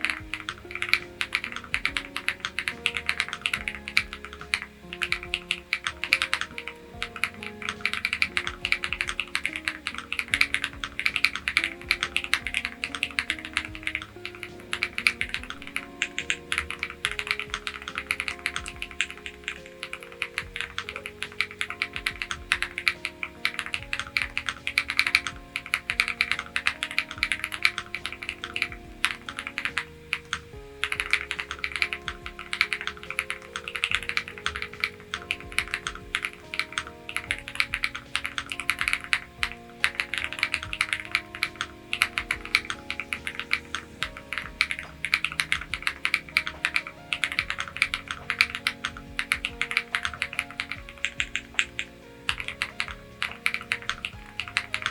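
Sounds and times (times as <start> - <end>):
background music: 0.0 - 54.9
fast typing on keyboard: 0.0 - 54.9.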